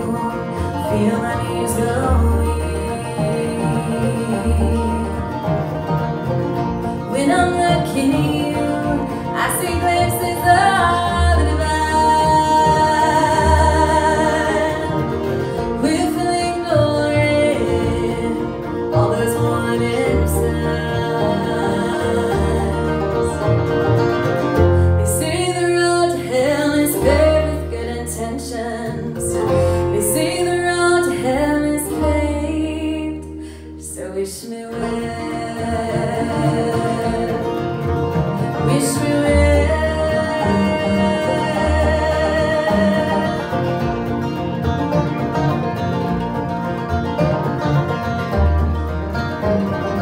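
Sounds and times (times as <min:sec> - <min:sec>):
woman singing: 0:00.0 - 0:05.5, 0:07.0 - 0:23.5, 0:24.9 - 0:43.8
bluegrass band playing: 0:00.0 - 0:50.0.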